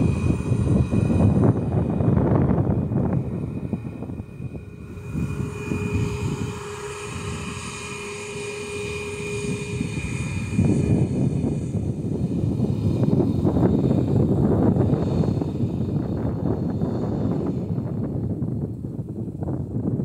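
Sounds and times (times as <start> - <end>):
aircraft engine whine: 0.0 - 20.0
aircraft engines rumbling: 0.0 - 20.0.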